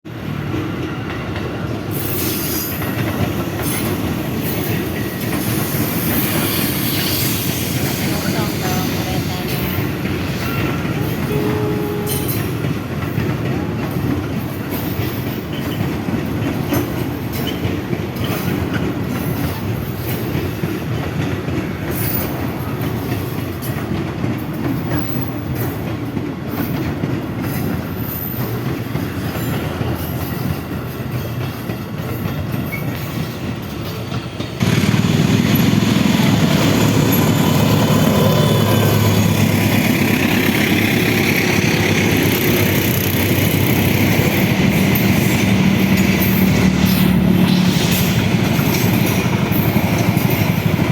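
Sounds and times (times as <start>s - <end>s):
train running on tracks: 0.1s - 50.9s.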